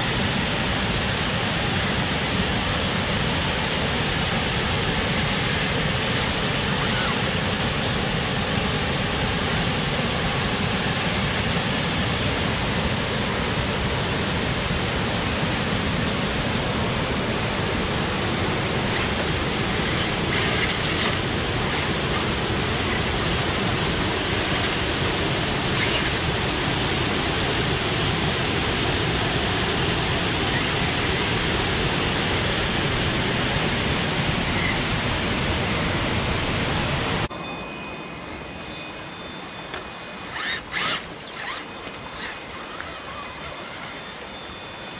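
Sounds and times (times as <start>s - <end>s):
water rushing over rocks: 0.0s - 37.3s.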